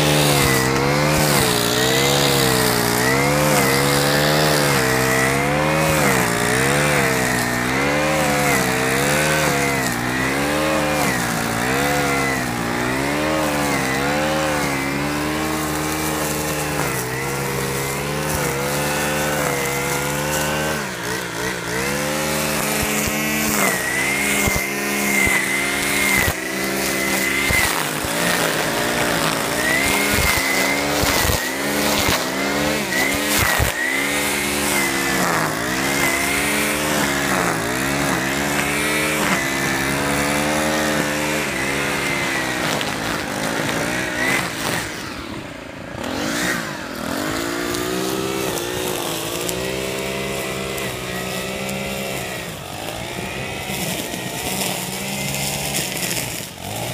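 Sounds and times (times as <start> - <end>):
string trimmer cutting grass: 0.0 - 56.9.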